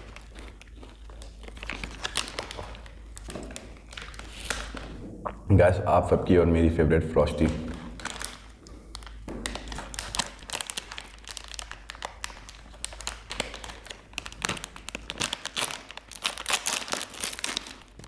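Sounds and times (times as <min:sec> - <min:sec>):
plastic wrapper crinkling: 0:00.0 - 0:05.0, 0:07.3 - 0:18.0.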